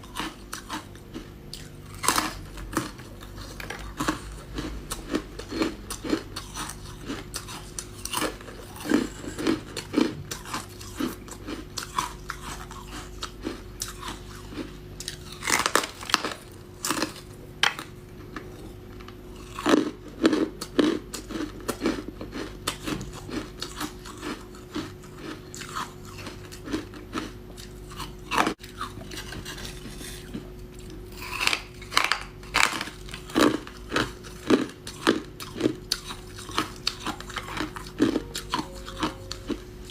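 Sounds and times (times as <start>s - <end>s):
faint steady hum: 0.0s - 39.9s
ice crunching being chewed: 0.0s - 39.9s.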